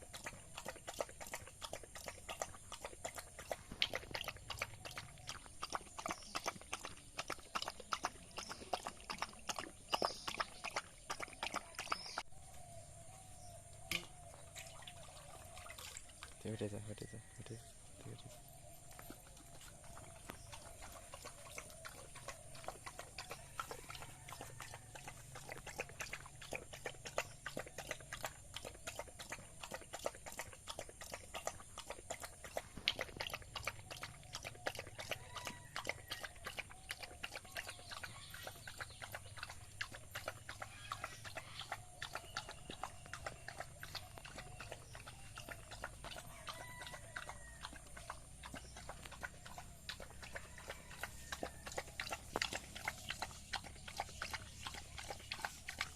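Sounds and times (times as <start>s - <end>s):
dog eating: 0.0s - 55.9s.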